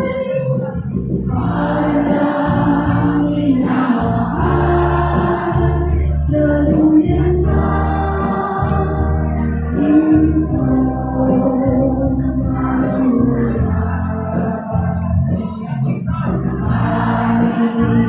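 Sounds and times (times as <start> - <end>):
amplified accompaniment with bass: 0.0 - 18.0
many voices singing: 0.0 - 18.0.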